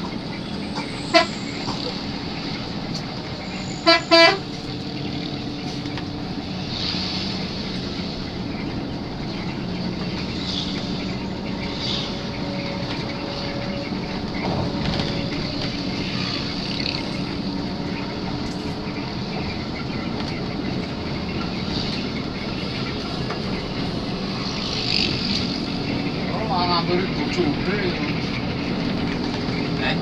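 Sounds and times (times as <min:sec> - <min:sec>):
bus engine drone: 0:00.0 - 0:30.0
road noise inside bus: 0:00.0 - 0:30.0.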